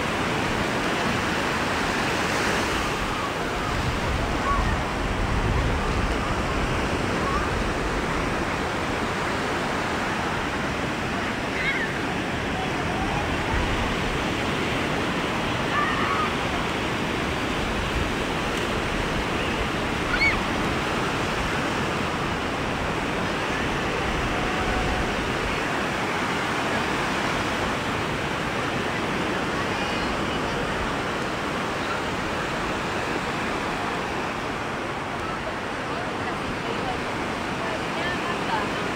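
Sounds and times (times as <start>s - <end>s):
small waves breaking on beach: 0.0s - 38.9s.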